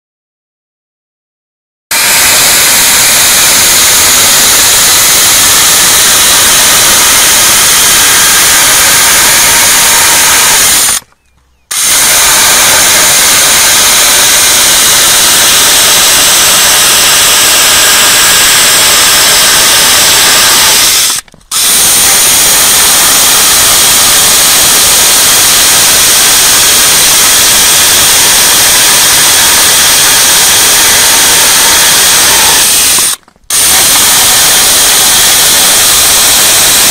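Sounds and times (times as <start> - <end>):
electric chainsaw cutting wood: 1.9 - 11.1, 11.7 - 36.9.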